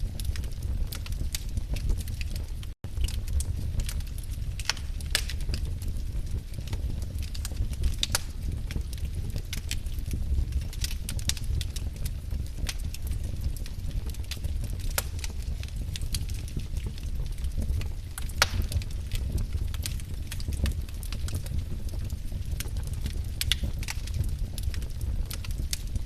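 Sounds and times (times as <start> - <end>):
firewood crackling and popping: 0.0 - 26.0
low rumble of flames: 0.0 - 26.0.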